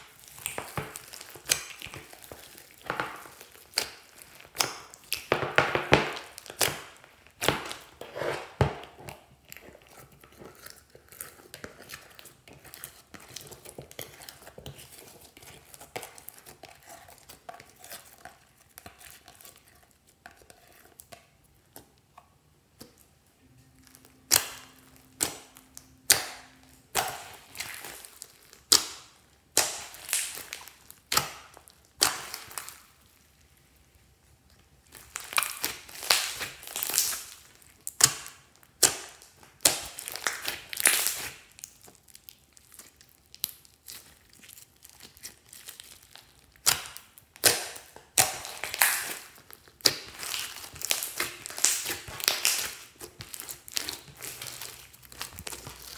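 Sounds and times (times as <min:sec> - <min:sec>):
slime crackling and popping: 0:00.0 - 0:55.9.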